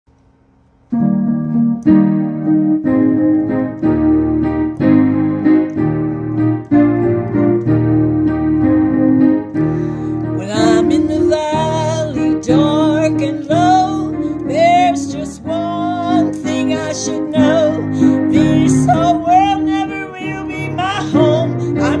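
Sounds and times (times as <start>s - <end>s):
piano playing sustained chords: 0.9s - 22.0s.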